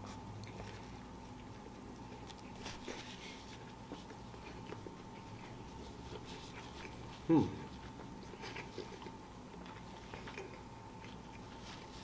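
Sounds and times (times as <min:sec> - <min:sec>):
faint steady hum: 0:00.0 - 0:12.0
crunchy biting and chewing: 0:00.1 - 0:12.0.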